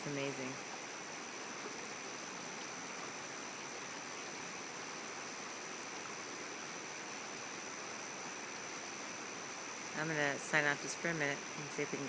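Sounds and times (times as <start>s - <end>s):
river flowing: 0.0s - 12.0s
thin high steady tone: 0.0s - 12.0s.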